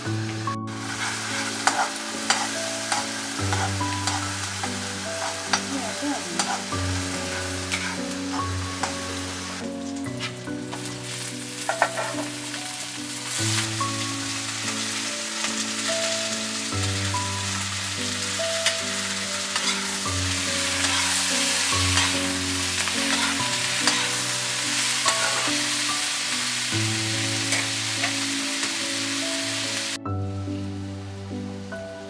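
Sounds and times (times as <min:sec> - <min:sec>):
stirring in a pan: 0:00.0 - 0:28.8
vegetables sizzling in a pan: 0:00.0 - 0:31.1
soft sustained music chords: 0:00.0 - 0:32.0.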